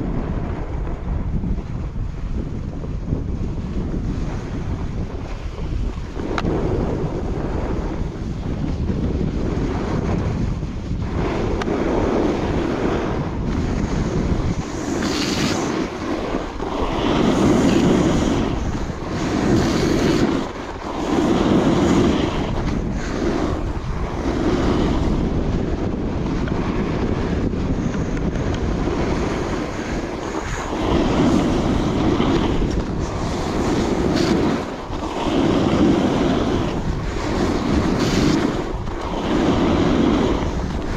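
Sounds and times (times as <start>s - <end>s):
snowboard edge carving snow: 0.0s - 40.9s
wind rushing over microphone: 0.0s - 40.9s.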